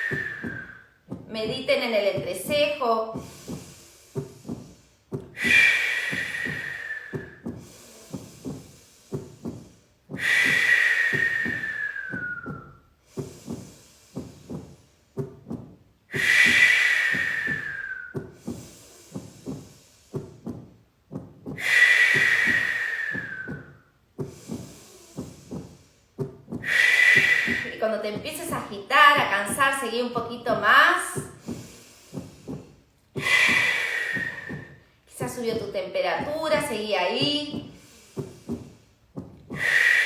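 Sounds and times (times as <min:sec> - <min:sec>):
long forceful breaths: 0:00.0 - 0:01.2, 0:02.9 - 0:35.6, 0:36.2 - 0:40.0
soft heartbeat-like knocks: 0:00.0 - 0:40.0.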